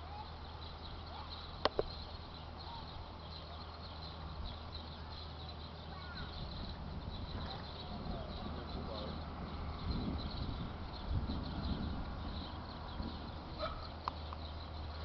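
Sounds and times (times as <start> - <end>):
faint chirps: 0.0 - 15.0
steady low hum: 0.0 - 15.0.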